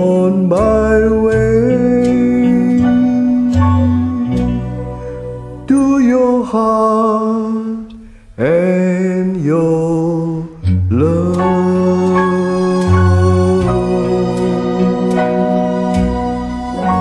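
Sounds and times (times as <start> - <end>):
slow pop ballad: 0.0 - 17.0.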